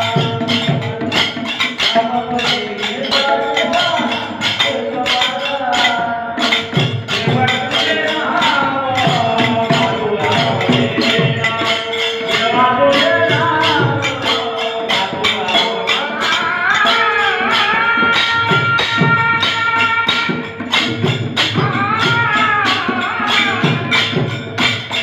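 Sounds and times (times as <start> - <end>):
percussion beat: 0.0 - 25.0
person singing: 0.0 - 25.0.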